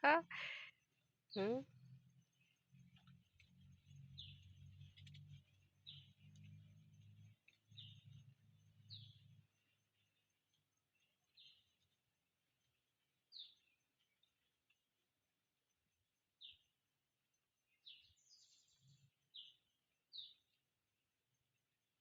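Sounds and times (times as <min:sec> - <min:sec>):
faint bird chirps: 0:00.0 - 0:14.8, 0:15.6 - 0:20.6.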